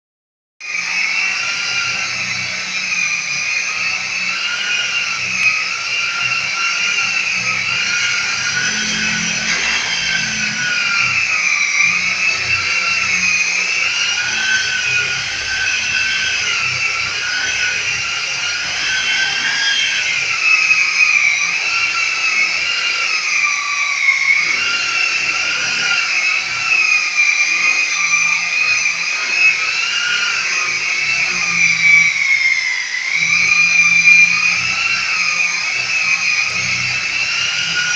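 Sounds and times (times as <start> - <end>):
electric sander whining: 0.6 - 37.9.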